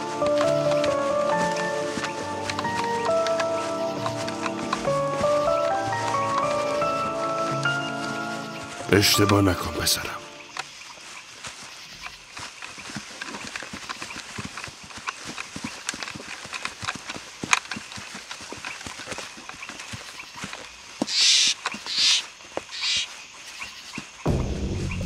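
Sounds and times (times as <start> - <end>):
clip-clop of footfalls: 0.0 - 9.2, 10.5 - 24.4.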